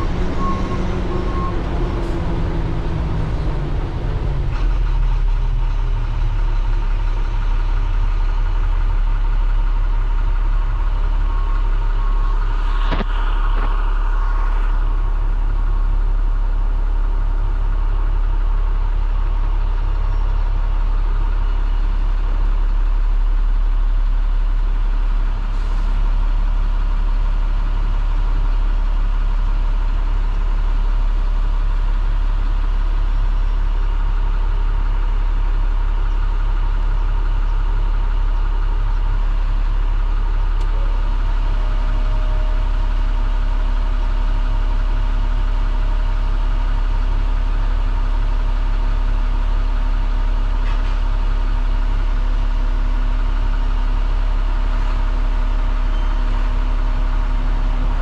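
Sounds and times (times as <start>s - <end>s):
diesel bus engine idling: 0.0s - 58.0s.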